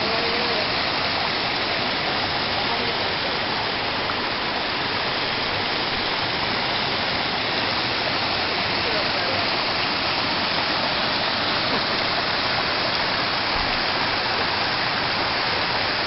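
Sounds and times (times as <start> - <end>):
whitewater rushing over boulders: 0.0 - 16.0.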